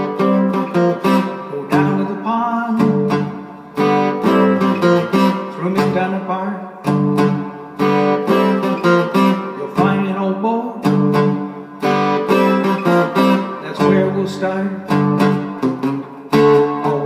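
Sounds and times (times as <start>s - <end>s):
acoustic guitar strumming blues: 0.0s - 17.0s.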